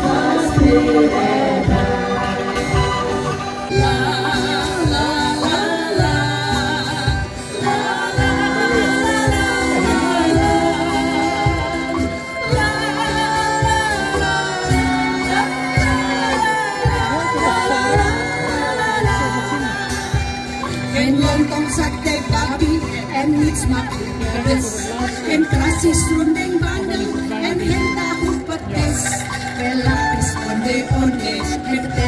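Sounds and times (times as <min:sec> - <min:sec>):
steady beat: 0:00.0 - 0:31.2
acoustic guitar: 0:00.0 - 0:32.0
angklung ensemble playing: 0:00.0 - 0:32.0
woman singing into microphone: 0:00.0 - 0:32.0.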